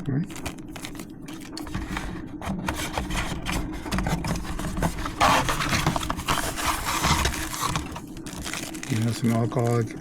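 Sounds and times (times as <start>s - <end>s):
plastic packaging rustling: 0.2s - 10.0s.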